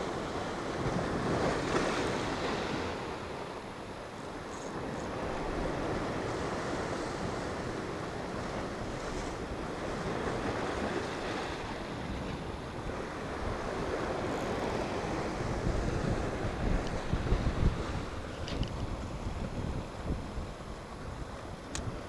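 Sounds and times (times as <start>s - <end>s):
waves breaking over rocks: 0.0s - 22.0s
wind buffeting microphone: 4.3s - 22.0s.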